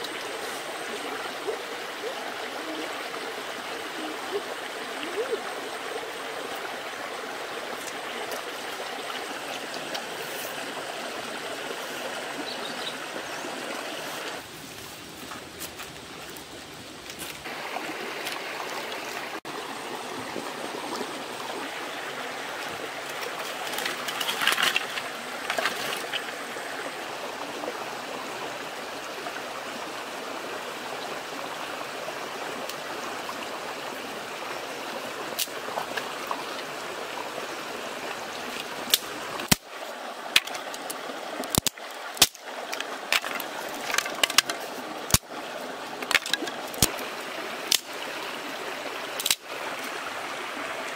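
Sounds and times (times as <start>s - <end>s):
stream running over rocks: 0.0s - 50.9s.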